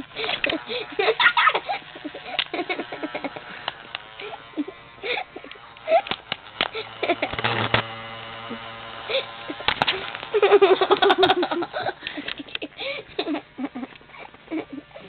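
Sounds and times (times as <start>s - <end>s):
person laughing: 0.0s - 7.6s, 8.5s - 15.0s.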